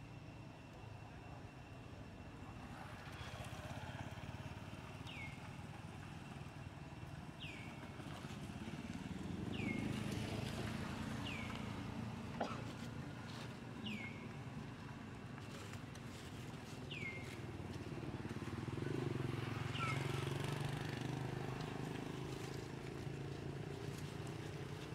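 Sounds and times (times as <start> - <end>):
vehicle engine rumbling: 2.4 - 24.9.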